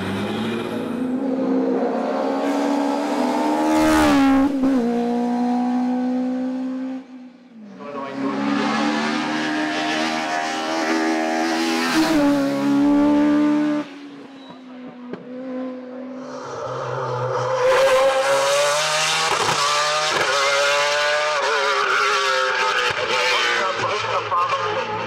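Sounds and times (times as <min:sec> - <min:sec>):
racing car engine accelerating: 0:00.0 - 0:14.1, 0:14.8 - 0:25.0.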